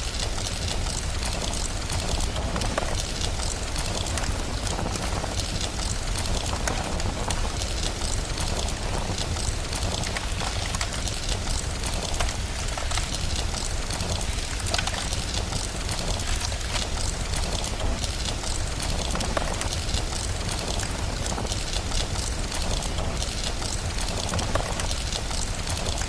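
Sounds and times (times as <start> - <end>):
steady rain hiss: 0.0 - 26.0
wood fire crackling: 0.0 - 26.0.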